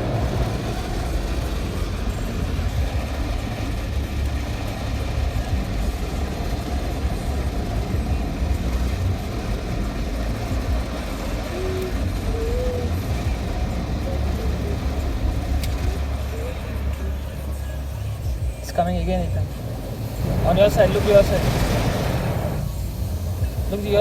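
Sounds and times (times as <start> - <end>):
hiss: 0.0 - 18.6, 19.6 - 24.0
car wash machinery rumble: 0.0 - 24.0.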